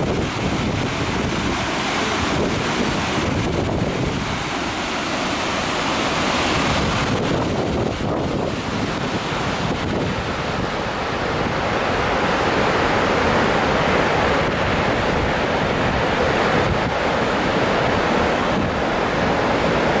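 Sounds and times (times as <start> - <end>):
ship wake churning water: 0.0 - 20.0
wind on microphone: 0.0 - 20.0.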